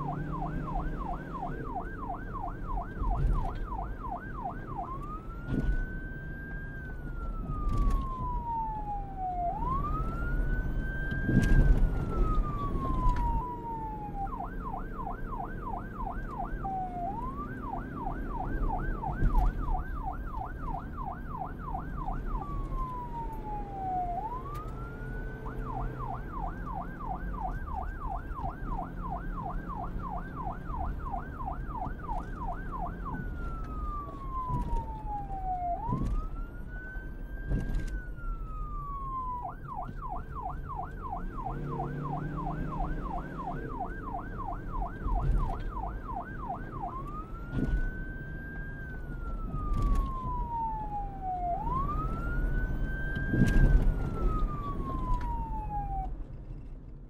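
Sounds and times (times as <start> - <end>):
police siren wailing and yelping: 0.0 - 56.7.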